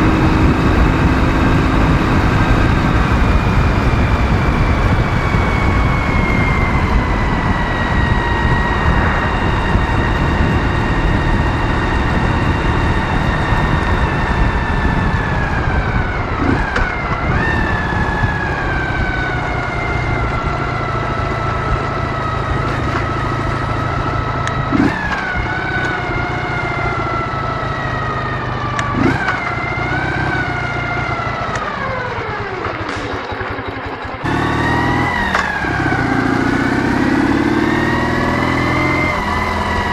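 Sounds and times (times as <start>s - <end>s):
motorcycle engine running: 0.0s - 39.9s
road and wind rumble: 0.0s - 39.9s.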